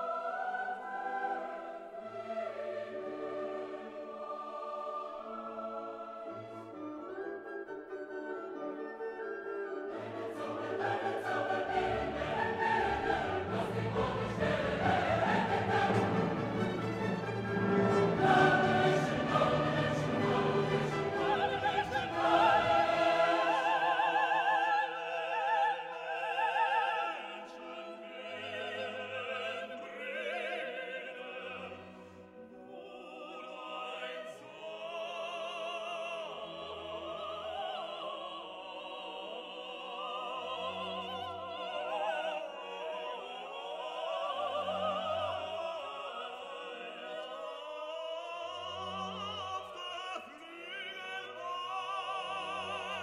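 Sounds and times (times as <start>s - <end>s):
operatic singing with orchestra: 0.0s - 53.0s.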